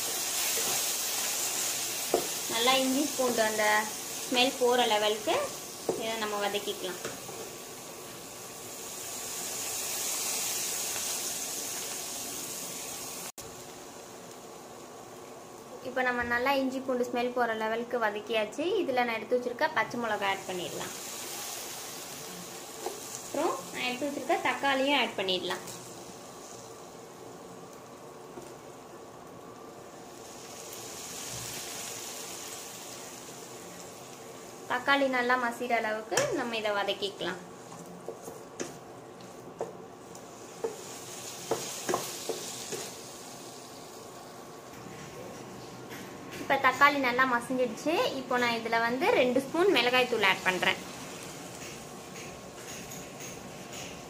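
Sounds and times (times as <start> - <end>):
onions sizzling in hot oil: 0.0 - 44.8, 46.5 - 54.0.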